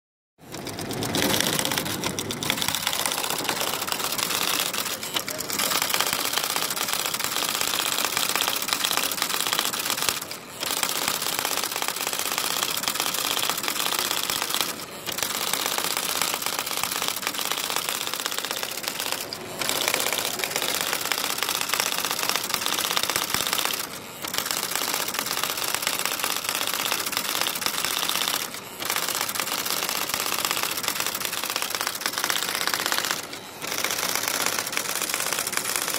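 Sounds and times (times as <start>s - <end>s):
electric typewriter typing: 0.4s - 35.9s.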